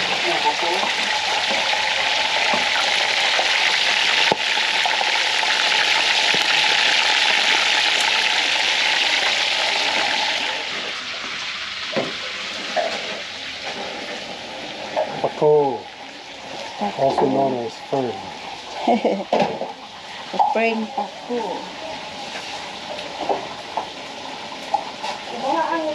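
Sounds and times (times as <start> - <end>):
fish sizzling in hot oil: 0.0 - 25.9.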